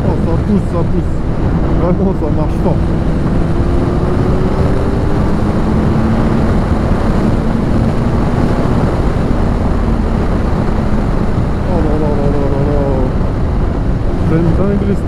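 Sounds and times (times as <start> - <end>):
heavy wind rush: 0.0 - 15.0
motorcycle engine at speed: 0.0 - 15.0.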